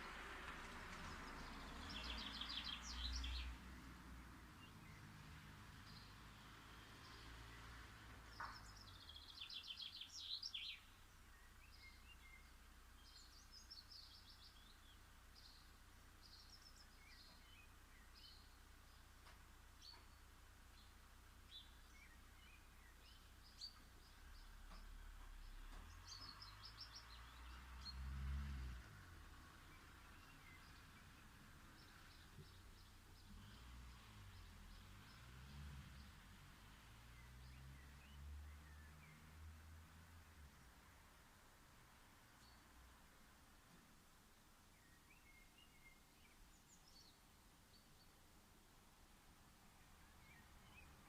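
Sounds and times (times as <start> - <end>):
songbirds chirping: 0.0 - 51.0.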